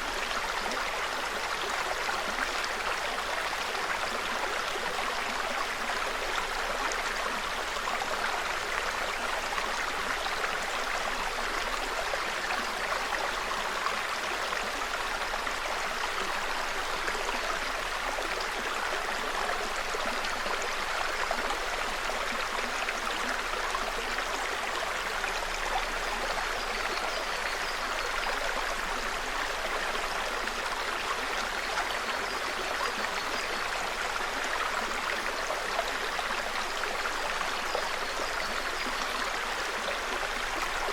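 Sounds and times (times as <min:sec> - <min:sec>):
brook babbling: 0:00.0 - 0:40.9.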